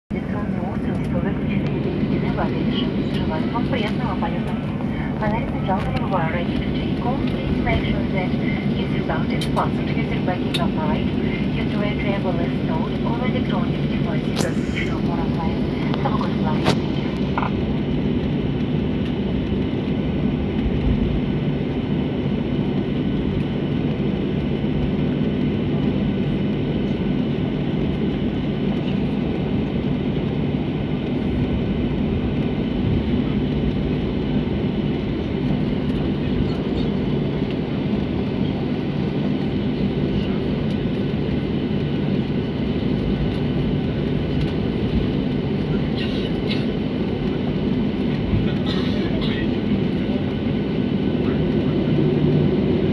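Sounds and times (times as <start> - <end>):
jet engines droning in cabin: 0.1 - 52.9.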